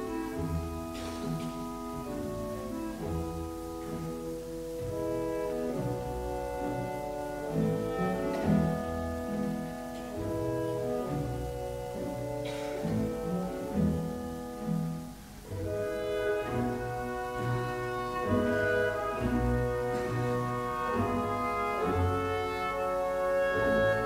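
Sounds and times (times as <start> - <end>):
classical instrumental music: 0.0 - 24.0.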